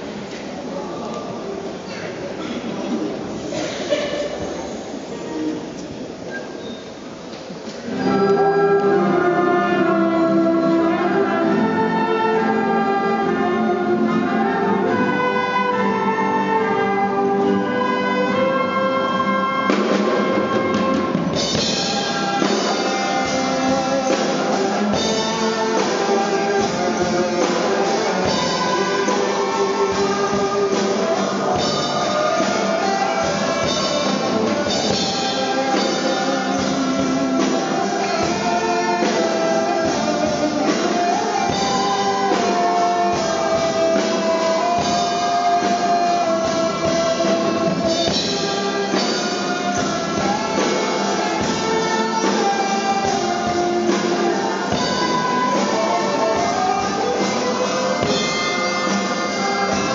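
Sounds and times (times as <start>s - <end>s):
orchestra playing held notes: 0.0s - 59.9s
drums beating: 7.2s - 59.9s.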